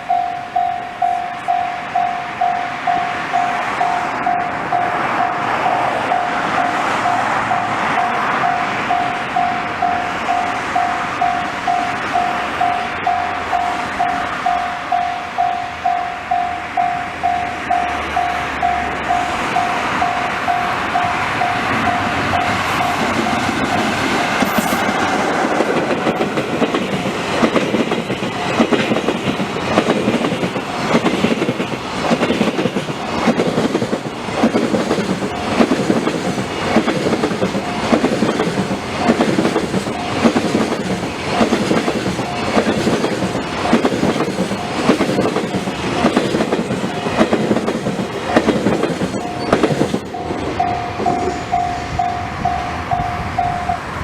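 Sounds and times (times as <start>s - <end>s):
level-crossing alarm dinging: 0.0s - 29.3s, 34.5s - 54.0s
train wheels clicking over rail joints: 0.0s - 54.0s.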